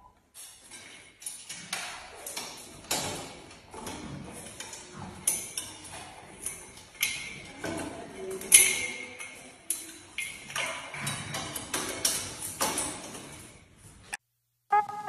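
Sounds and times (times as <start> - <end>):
metal gate rattling and clanking: 0.3 - 13.8.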